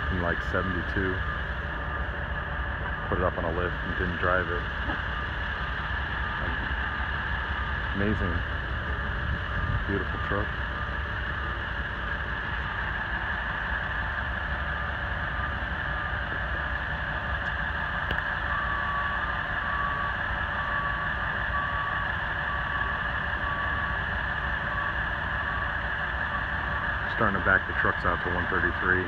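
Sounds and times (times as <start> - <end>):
reverse backup alarm beeping: 0.0 - 29.0
tow trucks idling: 0.0 - 29.0.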